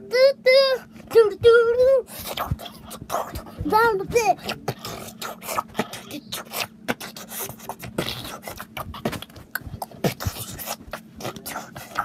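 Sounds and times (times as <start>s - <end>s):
child beatboxing: 0.0s - 12.0s.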